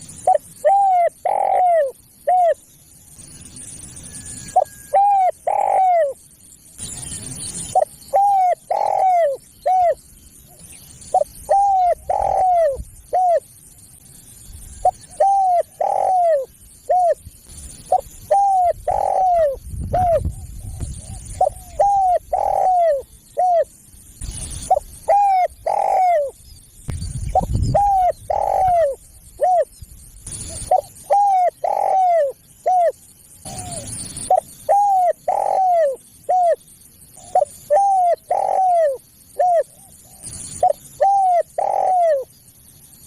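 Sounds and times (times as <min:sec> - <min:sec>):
dove cooing: 0:00.0 - 0:02.6, 0:04.1 - 0:06.2, 0:06.8 - 0:13.5, 0:14.8 - 0:17.2, 0:17.8 - 0:23.7, 0:24.6 - 0:26.4, 0:27.3 - 0:29.7, 0:30.3 - 0:42.3.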